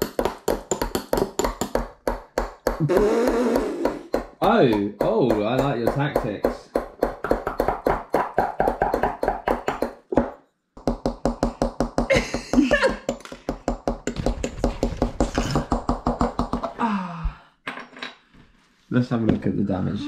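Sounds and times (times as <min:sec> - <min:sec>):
wooden mallet tapping chisel: 0:00.0 - 0:16.8.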